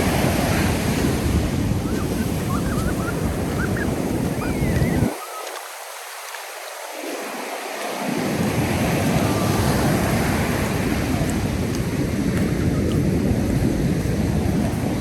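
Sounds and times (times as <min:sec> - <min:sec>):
ocean surf on sand beach: 0:00.0 - 0:15.0
wind on microphone: 0:00.0 - 0:15.0.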